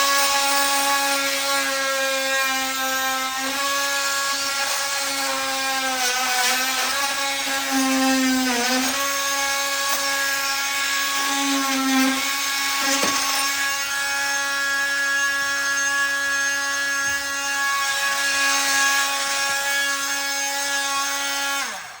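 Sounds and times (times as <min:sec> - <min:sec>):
power tool whining: 0:00.0 - 0:22.0.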